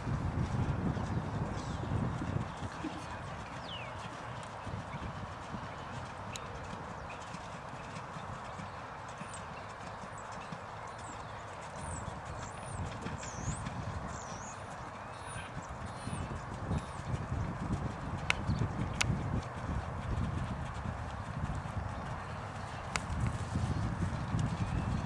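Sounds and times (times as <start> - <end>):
hoofbeats on sand: 0.0 - 25.0.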